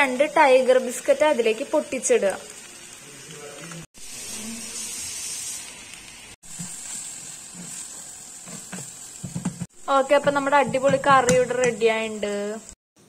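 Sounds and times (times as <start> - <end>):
curry sizzling in a hot pan: 0.0 - 12.8.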